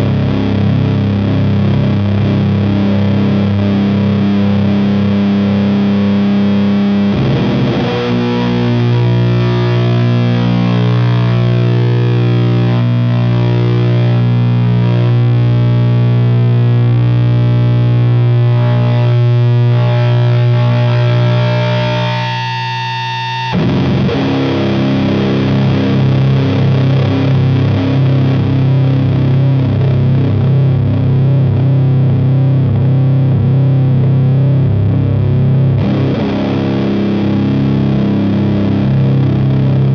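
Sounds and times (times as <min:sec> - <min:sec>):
distorted electric guitar chords: 0:00.0 - 0:39.9.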